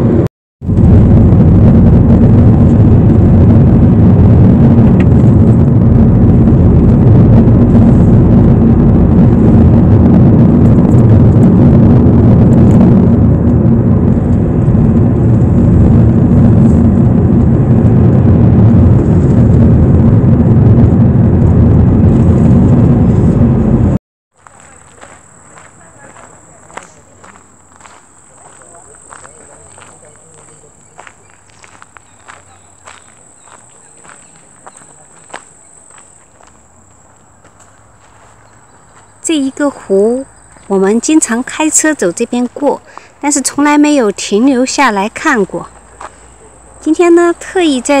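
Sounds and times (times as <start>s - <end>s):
car engine and tyre noise: 0.0s - 48.0s.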